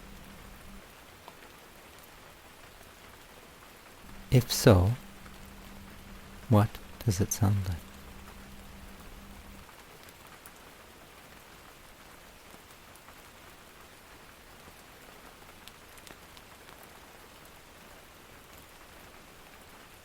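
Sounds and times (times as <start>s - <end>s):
faint rain hiss: 0.0s - 20.0s.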